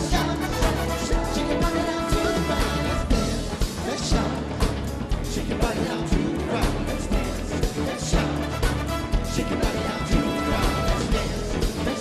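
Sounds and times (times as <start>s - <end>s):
backing vocalists singing: 0.0s - 12.0s
live band music: 0.0s - 12.0s
steady drum beat: 0.0s - 12.0s.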